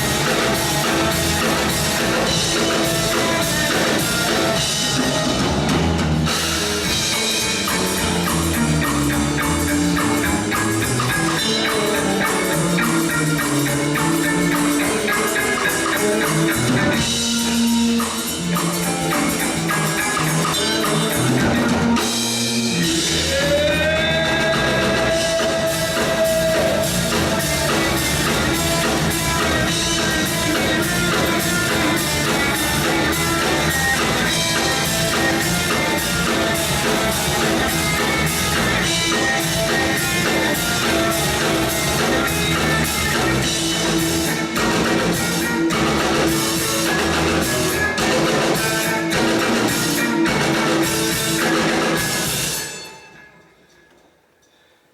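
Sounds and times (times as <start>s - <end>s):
rock band playing live: 0.0s - 53.3s.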